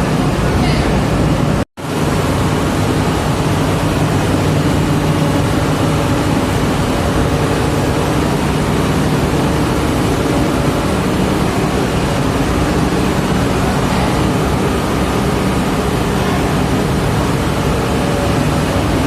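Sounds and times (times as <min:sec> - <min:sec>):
large diesel engine running: 0:00.0 - 0:19.0.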